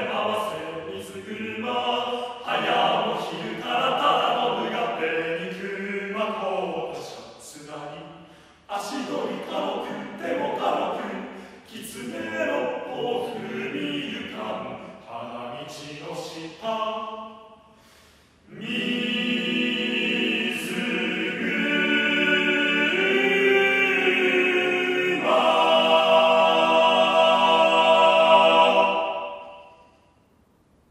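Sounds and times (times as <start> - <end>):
male a cappella ensemble singing: 0.0 - 8.0, 8.7 - 17.4, 18.4 - 30.0.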